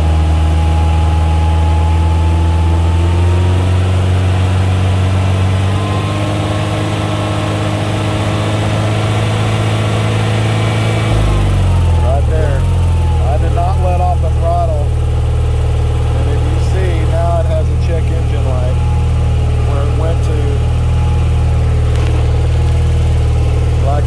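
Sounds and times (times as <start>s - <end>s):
car engine misfiring: 0.0s - 24.0s.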